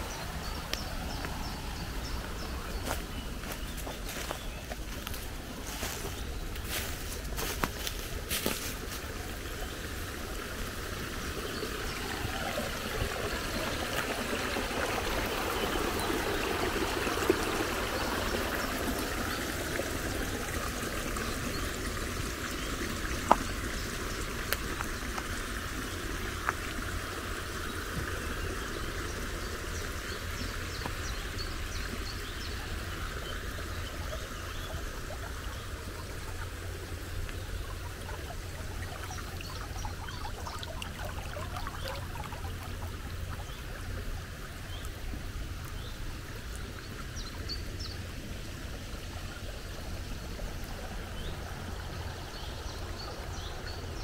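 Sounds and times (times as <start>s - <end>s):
brook babbling over stones: 0.0s - 54.0s.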